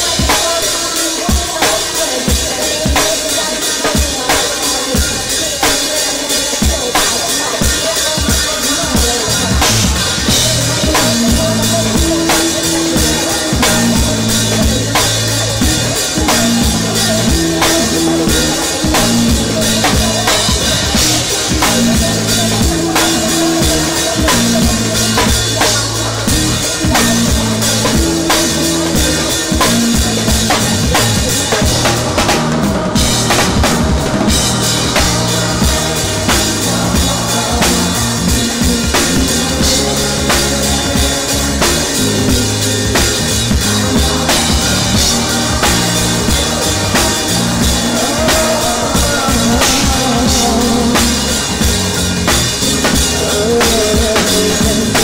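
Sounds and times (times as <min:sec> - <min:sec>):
band playing r and b groove: 0:00.0 - 0:55.0
live drum kit: 0:00.0 - 0:55.0.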